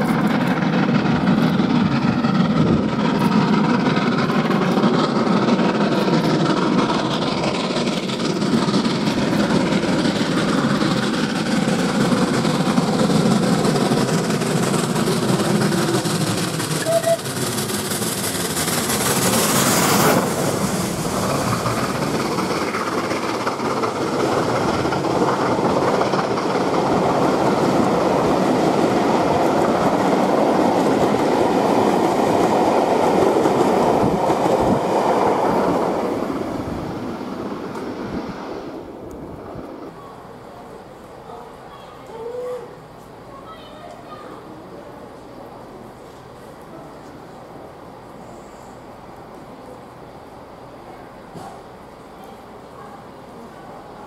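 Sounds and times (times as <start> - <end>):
steam locomotive exhaust beats: 0.0 - 54.0
train coaches clattering on track: 0.0 - 54.0.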